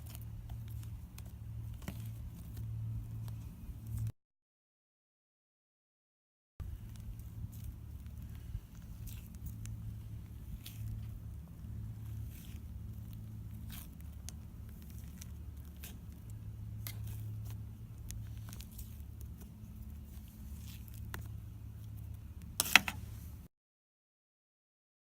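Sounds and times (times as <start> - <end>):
low hum: 0.0 - 4.1, 6.6 - 23.5.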